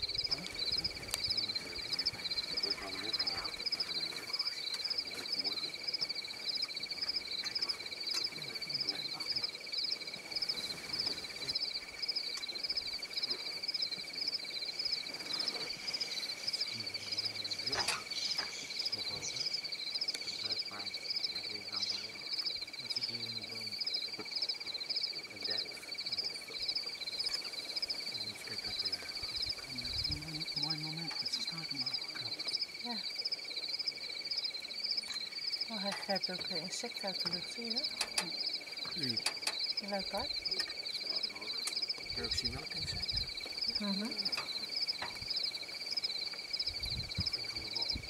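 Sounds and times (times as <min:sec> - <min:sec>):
high-pitched insect whine: 0:00.0 - 0:48.0
insects trilling: 0:00.0 - 0:48.0.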